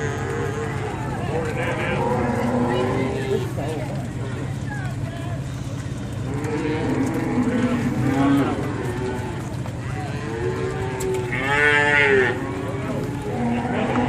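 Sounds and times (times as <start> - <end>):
cattle mooing: 0.0 - 3.9, 6.2 - 14.0.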